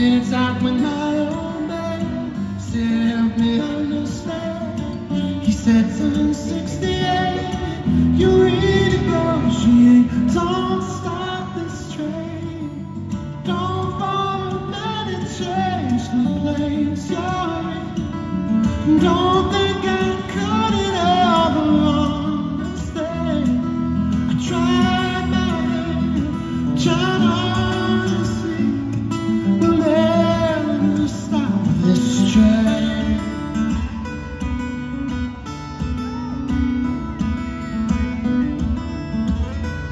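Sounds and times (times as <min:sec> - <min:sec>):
man singing: 0:00.0 - 0:34.4
acoustic guitar strumming: 0:00.0 - 0:39.9.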